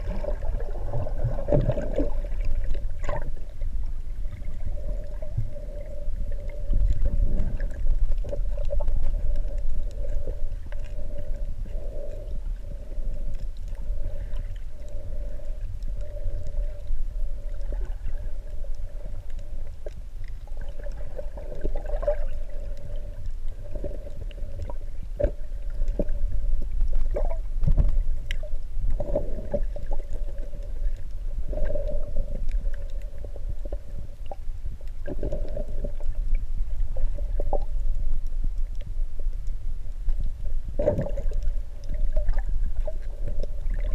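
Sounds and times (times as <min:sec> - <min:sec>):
low underwater rumble: 0:00.0 - 0:43.9.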